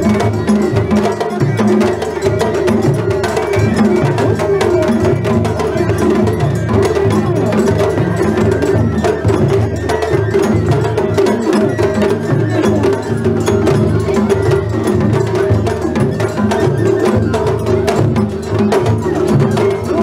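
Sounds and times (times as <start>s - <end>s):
taiko drums beating: 0.0s - 20.0s.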